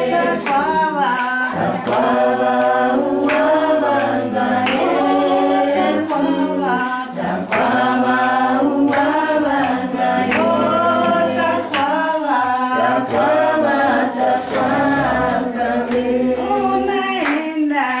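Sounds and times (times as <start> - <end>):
choir singing in harmony: 0.0 - 18.0.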